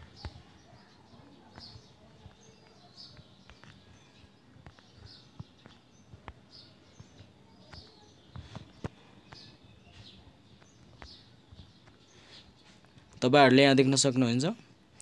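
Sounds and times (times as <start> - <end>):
faint bird chirps: 0.0 - 13.3.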